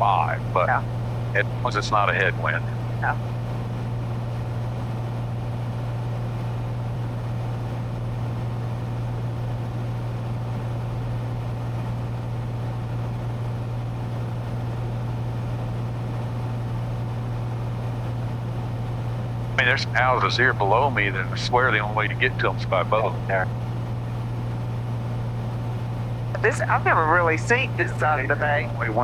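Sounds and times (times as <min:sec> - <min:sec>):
airplane engine and propeller droning: 0:00.0 - 0:29.0.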